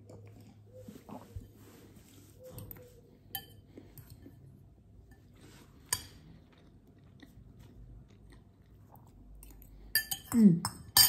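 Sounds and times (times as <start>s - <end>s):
quiet chewing: 0.0s - 9.9s.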